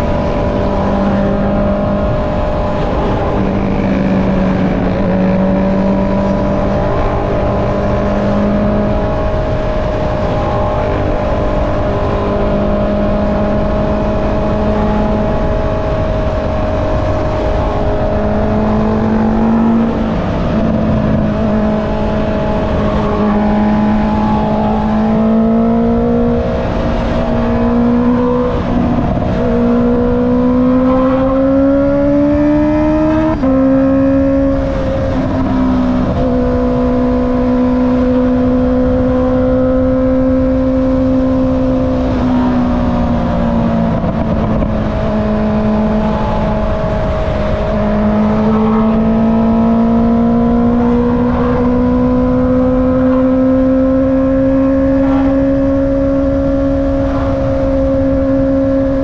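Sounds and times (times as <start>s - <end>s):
motorcycle engine accelerating: 0.0s - 59.0s
wind and road rush: 0.0s - 59.0s.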